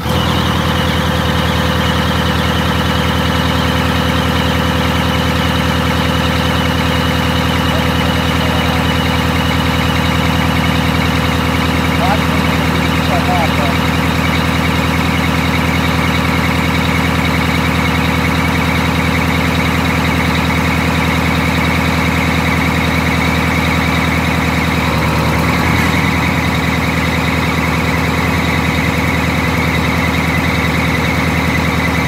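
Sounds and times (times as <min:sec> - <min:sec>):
bus engine idling: 0:00.0 - 0:32.0
squealing alternator belt: 0:00.0 - 0:32.0.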